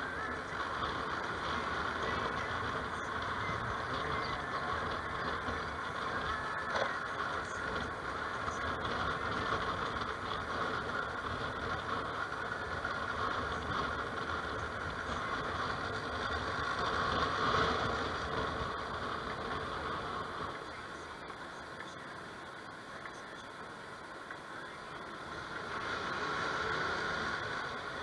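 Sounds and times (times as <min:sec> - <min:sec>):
road noise: 0:00.0 - 0:28.0
scooter engine: 0:00.0 - 0:28.0.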